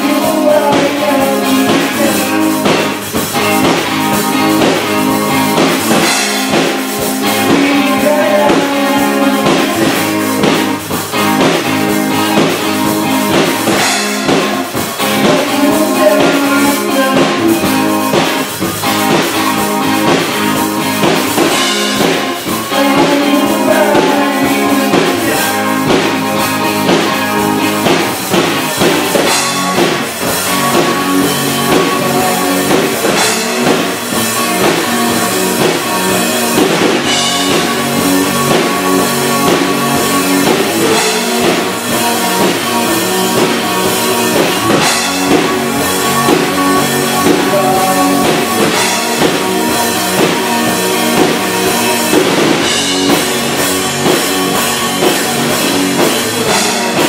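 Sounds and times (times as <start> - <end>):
drum kit beat: 0.0 - 57.0
guitars playing chords: 0.0 - 57.0.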